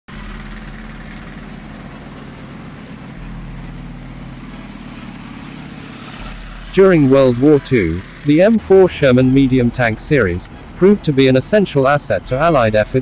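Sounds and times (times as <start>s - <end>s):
tank engine running: 0.1s - 13.0s.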